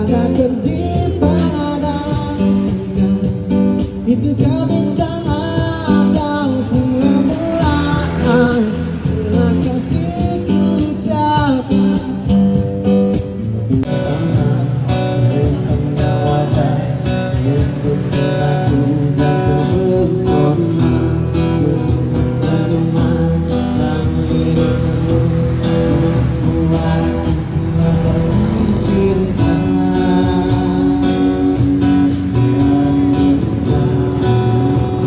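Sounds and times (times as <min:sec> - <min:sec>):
person singing: 0:00.0 - 0:12.5, 0:13.8 - 0:35.0
guitar strumming: 0:00.0 - 0:35.0.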